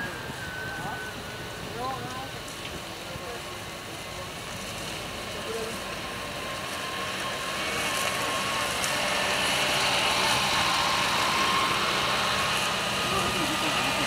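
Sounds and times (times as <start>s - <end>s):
air-cooled car engines running: 0.0s - 14.0s.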